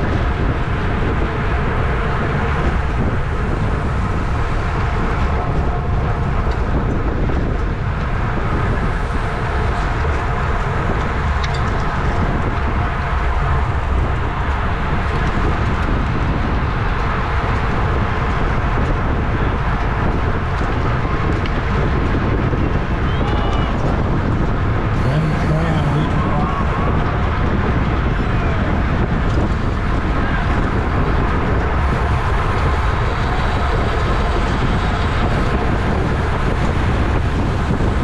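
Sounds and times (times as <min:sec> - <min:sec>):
bicycle tyre and drivetrain noise: 0:00.0 - 0:38.0
wind rushing over microphone: 0:00.0 - 0:38.0.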